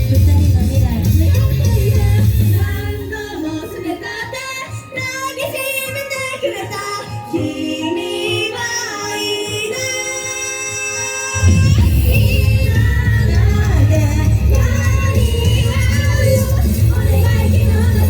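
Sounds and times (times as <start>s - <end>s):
pop backing track: 0.0s - 18.0s
woman singing pop song: 0.0s - 18.0s.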